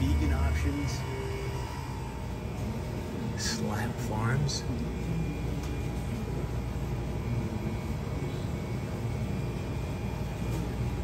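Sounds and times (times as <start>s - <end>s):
faint constant tones: 0.0s - 11.0s
low machine hum and rumble: 0.0s - 11.0s.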